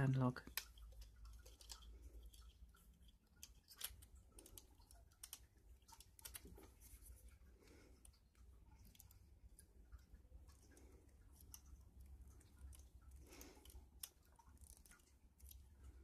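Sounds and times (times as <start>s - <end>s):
faint clicks of pliers and wire: 0.0s - 16.0s.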